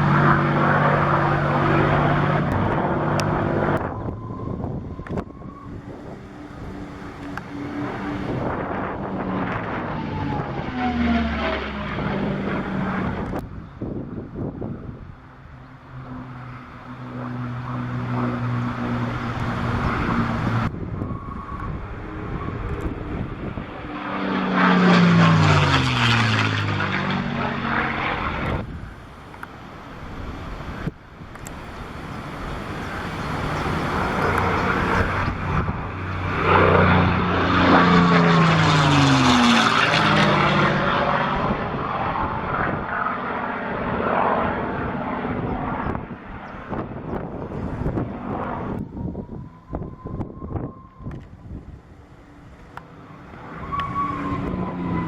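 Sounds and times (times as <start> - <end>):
propeller plane flying by: 0.0 - 55.0.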